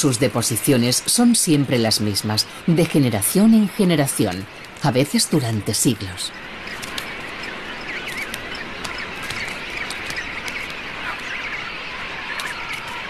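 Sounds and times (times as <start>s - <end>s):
seabirds calling: 0.0s - 13.0s
steady rushing background noise: 0.0s - 13.0s.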